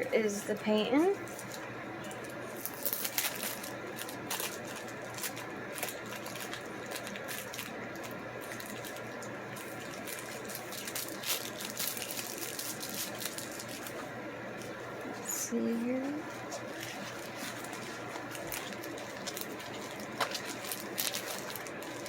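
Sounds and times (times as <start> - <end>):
packaging crinkling and rustling: 1.2 - 15.0, 16.0 - 22.0.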